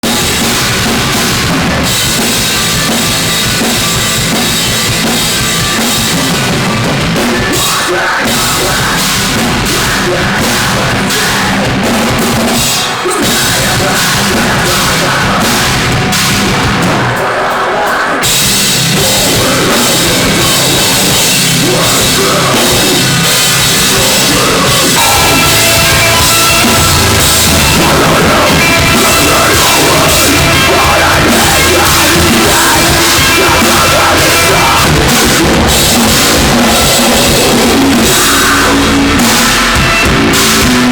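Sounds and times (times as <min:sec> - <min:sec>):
drum kit: 0:00.0 - 0:40.9
heavy metal band playing: 0:00.0 - 0:40.9.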